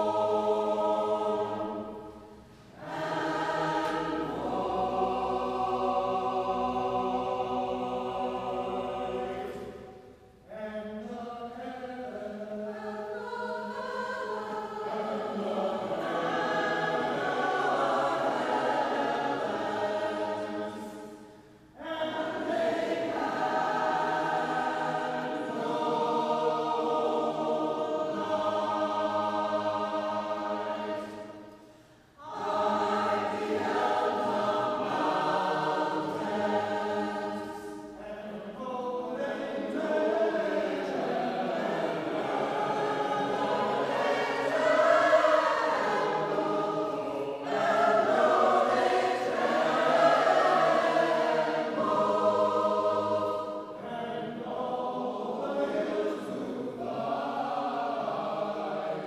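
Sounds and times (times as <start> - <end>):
mixed choir singing unaccompanied: 0.0 - 59.0.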